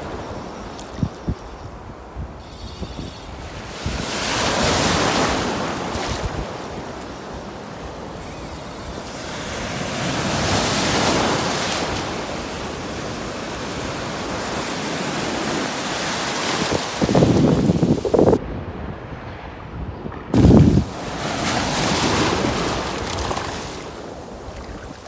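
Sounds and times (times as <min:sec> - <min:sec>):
waves crashing on beach: 0:00.0 - 0:01.0, 0:02.8 - 0:19.6, 0:20.3 - 0:25.0.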